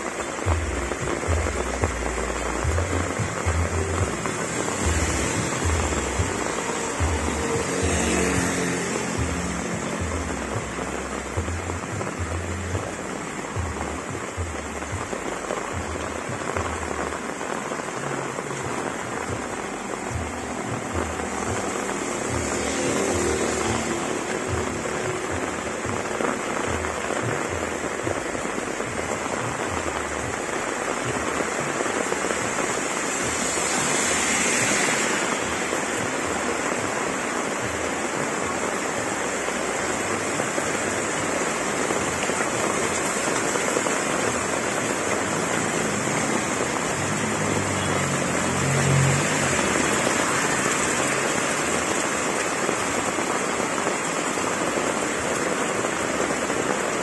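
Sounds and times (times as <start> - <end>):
heavy rain pouring: 0.0 - 57.0
water splashing off roofs: 0.0 - 57.0.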